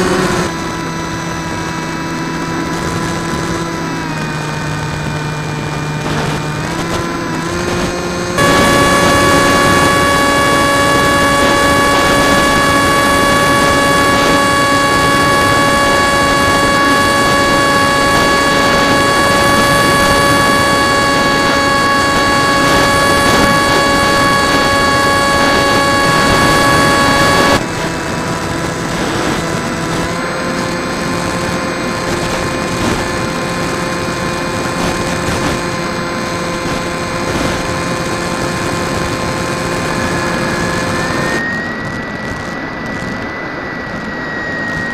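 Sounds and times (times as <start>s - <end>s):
light aircraft engine and propeller: 0.0s - 44.9s
wind rush: 0.0s - 44.9s.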